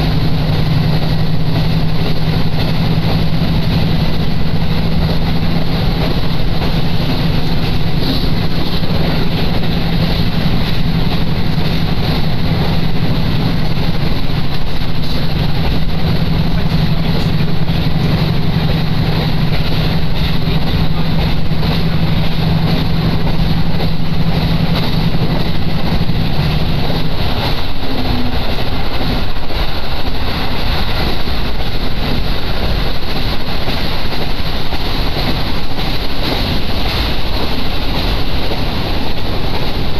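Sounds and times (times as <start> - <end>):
engine hum: 0.0 - 39.9
train running rumble: 0.0 - 39.9.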